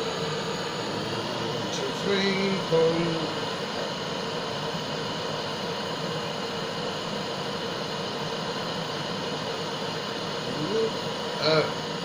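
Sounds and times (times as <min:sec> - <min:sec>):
gas torch flame roaring: 0:00.0 - 0:12.0.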